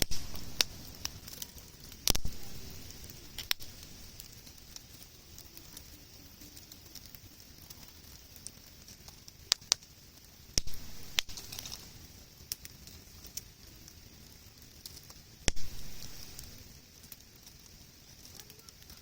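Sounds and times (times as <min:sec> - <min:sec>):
campfire crackling: 0:00.0 - 0:19.0
sharp pops of fire: 0:00.0 - 0:19.0
steady hiss: 0:00.0 - 0:19.0.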